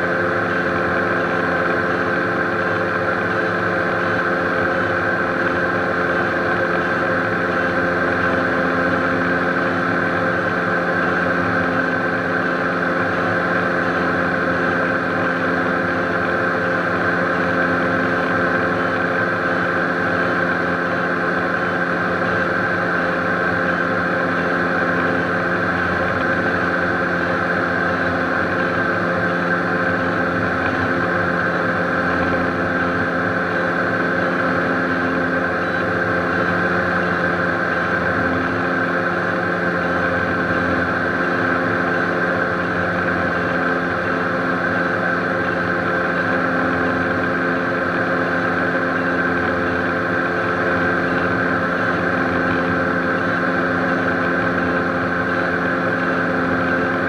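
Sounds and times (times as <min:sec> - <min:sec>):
piston aircraft engine and propeller: 0:00.0 - 0:57.0.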